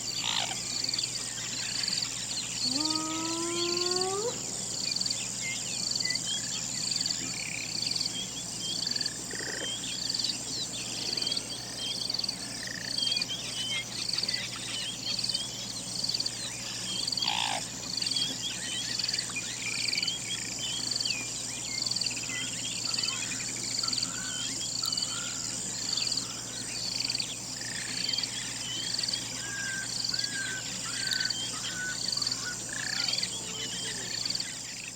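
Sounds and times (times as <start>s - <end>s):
bird chirps: 0.0s - 34.9s
high insect drone: 0.0s - 34.9s
short repeating insect chirp: 0.0s - 34.9s.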